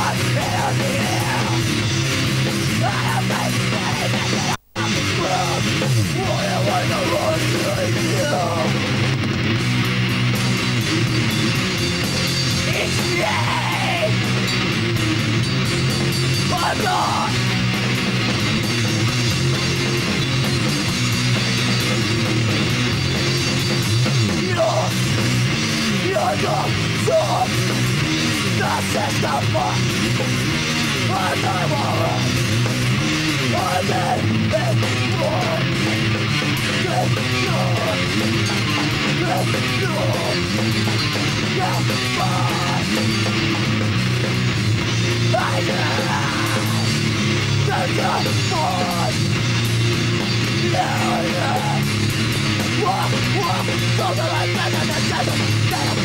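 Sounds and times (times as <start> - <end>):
bass: 0.0 - 56.0
drum kit: 0.0 - 56.0
heavy band playing live: 0.0 - 56.0
high sliding guitar wails: 0.0 - 56.0.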